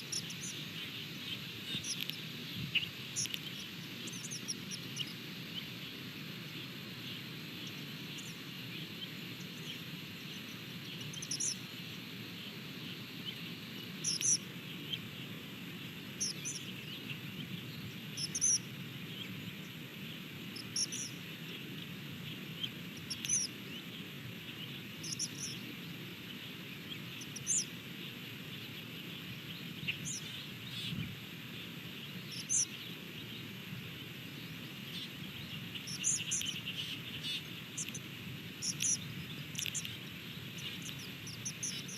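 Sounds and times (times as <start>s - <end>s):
bird chirping: 0.0s - 15.4s, 16.1s - 21.6s, 22.2s - 33.5s, 34.4s - 41.9s
insect buzz: 0.0s - 33.0s, 34.2s - 41.9s.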